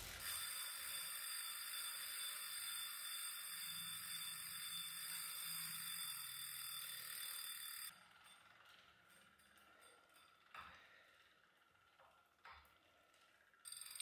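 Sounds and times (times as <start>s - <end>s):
bike trainer and chain whirring: 0.0s - 14.0s.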